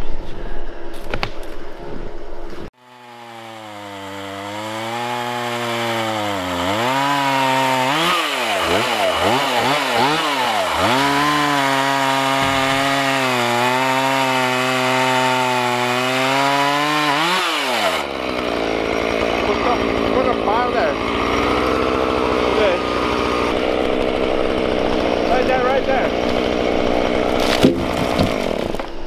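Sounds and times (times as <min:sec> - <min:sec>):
chainsaw cutting wood: 0:02.7 - 0:29.0.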